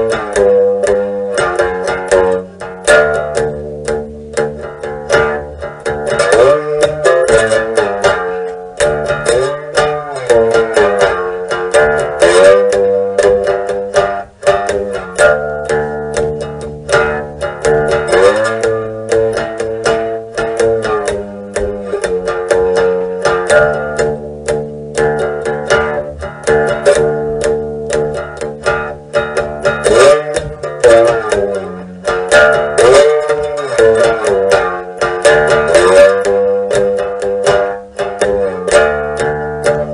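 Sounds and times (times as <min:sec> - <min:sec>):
fast-picked string tune: 0:00.0 - 0:39.9.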